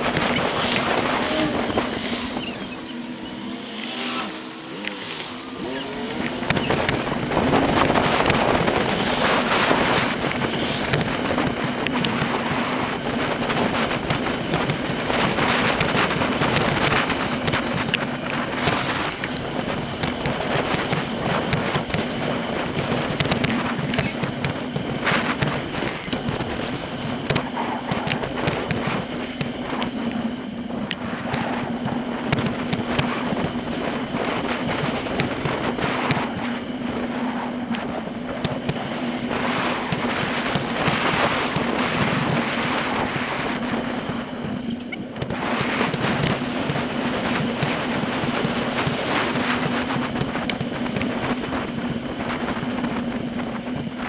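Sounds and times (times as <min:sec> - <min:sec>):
bicycle road rattle: 0:00.0 - 0:54.0
steady low hum: 0:00.0 - 0:54.0
wind on microphone: 0:00.0 - 0:54.0.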